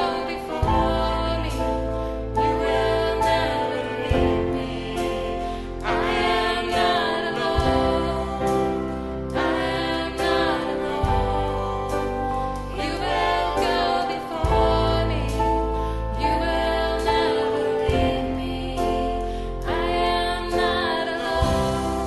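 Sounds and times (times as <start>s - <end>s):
voices singing: 0.0s - 22.0s
worship music chords: 0.0s - 22.0s.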